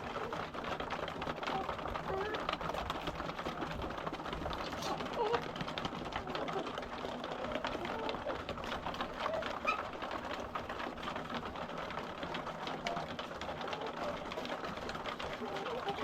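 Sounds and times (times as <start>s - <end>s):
hens clucking softly: 0.0s - 16.0s
hens pecking clicks: 0.0s - 16.0s.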